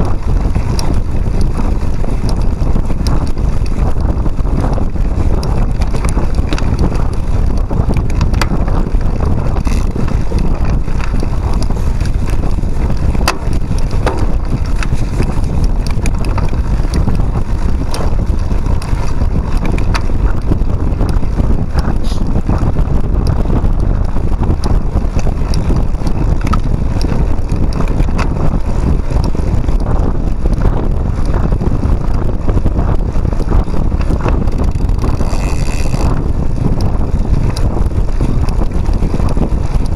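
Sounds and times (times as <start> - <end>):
bike clicks and rattles: 0.0 - 39.9
tyre rumble: 0.0 - 39.9
wind buffeting microphone: 0.0 - 39.9.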